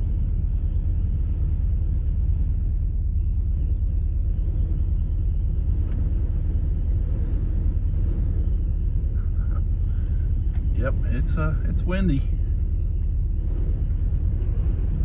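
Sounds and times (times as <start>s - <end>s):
strong wind buffeting a van: 0.0s - 15.0s.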